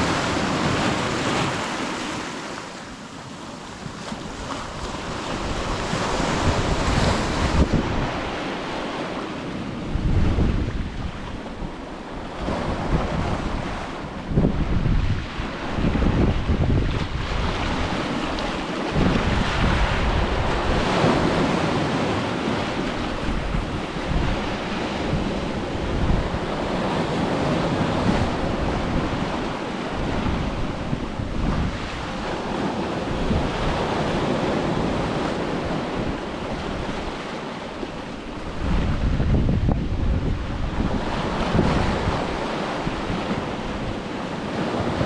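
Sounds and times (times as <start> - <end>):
ocean waves washing onto beach: 0.0 - 45.0
wind buffeting microphone: 3.2 - 45.0.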